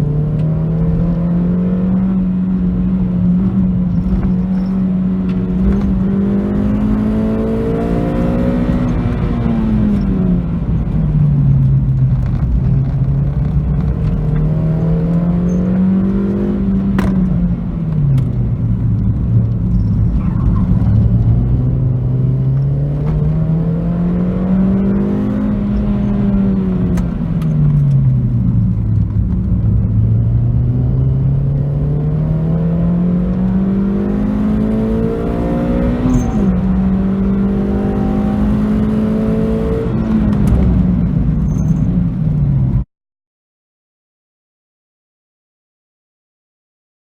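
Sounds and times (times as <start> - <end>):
car engine accelerating: 0.0 - 42.8.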